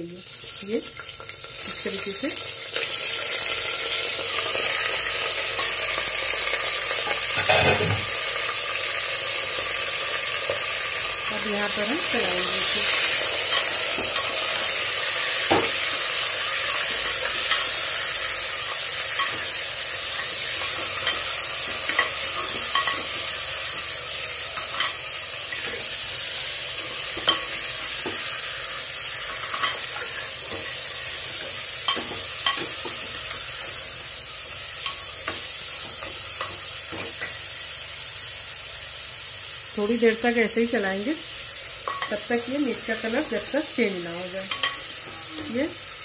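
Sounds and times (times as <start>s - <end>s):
meat sizzling in oil: 0.0s - 46.0s.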